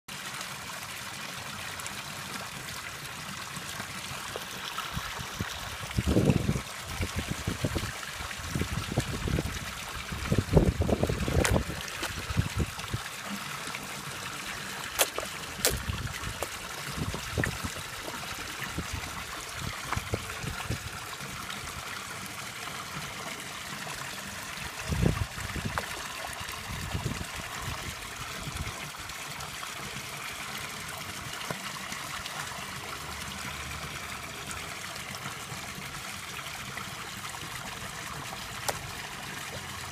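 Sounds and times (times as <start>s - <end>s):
fish slurping and splashing: 0.1s - 39.9s
pond water trickling: 0.1s - 39.9s.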